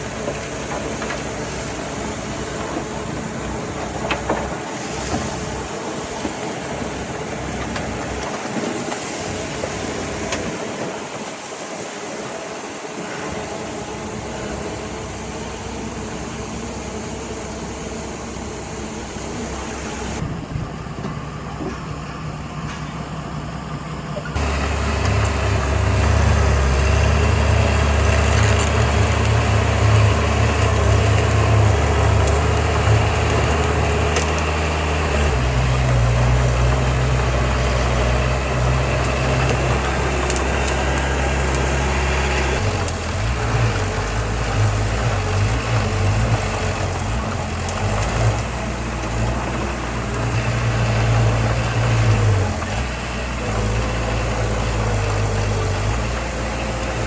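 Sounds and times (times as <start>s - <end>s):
diesel machinery engine drone: 0.0s - 57.0s.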